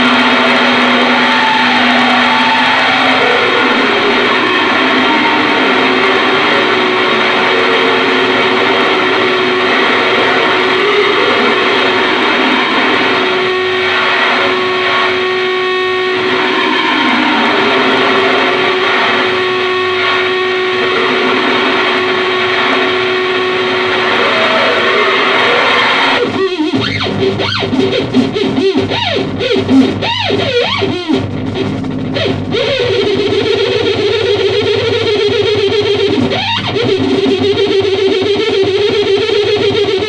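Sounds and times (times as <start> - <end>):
distorted theremin noise: 0.0 - 40.0.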